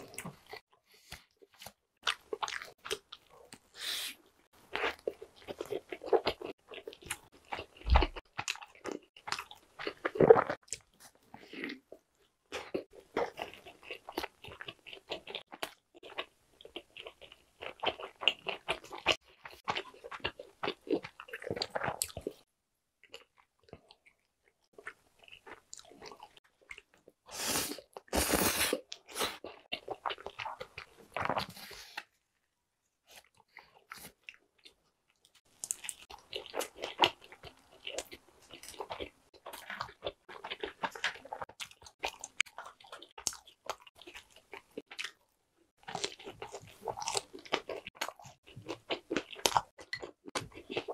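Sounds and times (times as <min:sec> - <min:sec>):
crunching and chewing food: 0:00.0 - 0:03.9, 0:04.5 - 0:32.2, 0:33.0 - 0:50.9.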